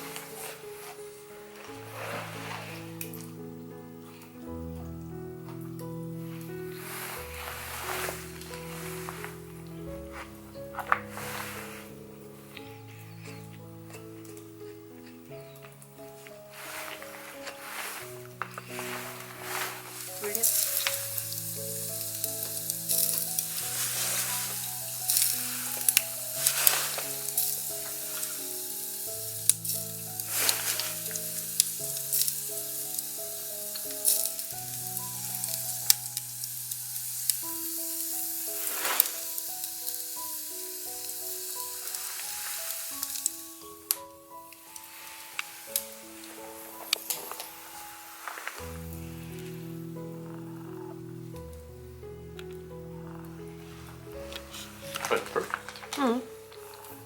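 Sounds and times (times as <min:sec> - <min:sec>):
soft background music: 0:00.0 - 0:57.0
campfire crackling and popping: 0:06.4 - 0:57.0.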